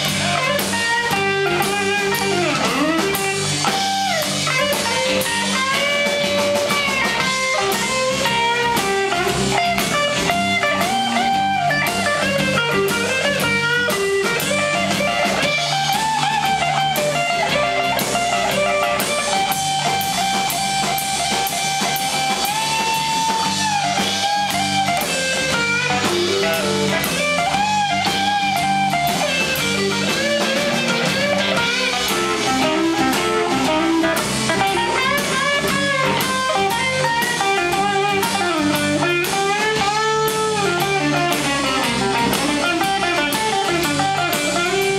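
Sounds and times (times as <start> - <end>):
bass guitar: 0.0 - 44.9
drums: 0.0 - 44.9
electric guitar solo: 0.0 - 44.9.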